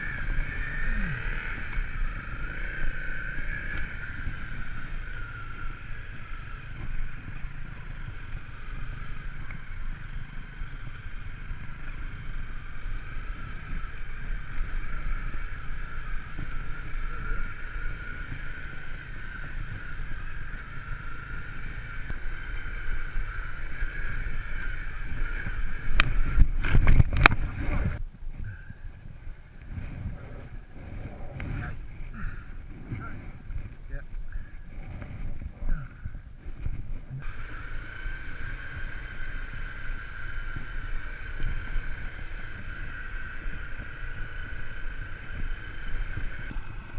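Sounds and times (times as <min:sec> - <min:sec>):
off-road vehicle engine running: 0:00.0 - 0:46.9.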